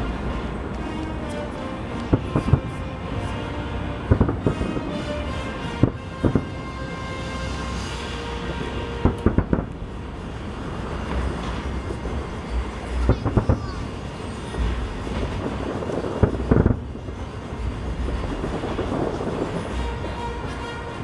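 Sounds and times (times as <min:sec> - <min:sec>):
fireworks booms: 0:00.0 - 0:02.8, 0:04.0 - 0:20.5
distant fireworks rumbling and crackling: 0:00.0 - 0:21.0.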